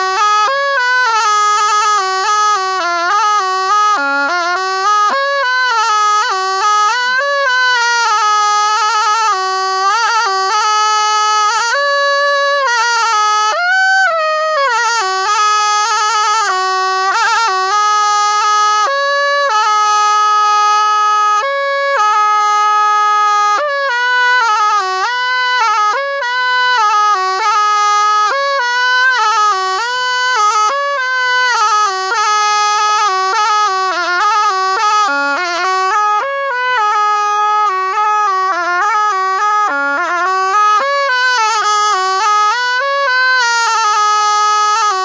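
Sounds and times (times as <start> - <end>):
double-reed pipe melody: 0.0 - 45.0.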